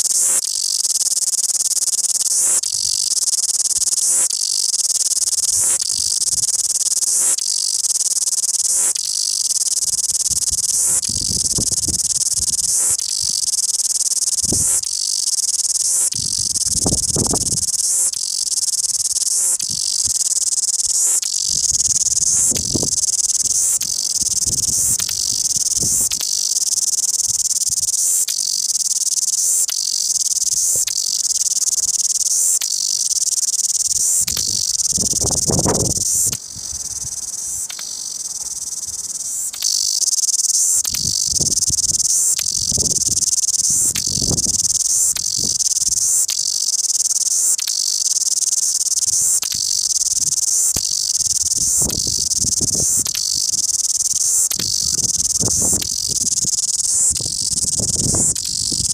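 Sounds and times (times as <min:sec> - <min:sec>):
cicada buzzing song: 0:00.0 - 0:58.9.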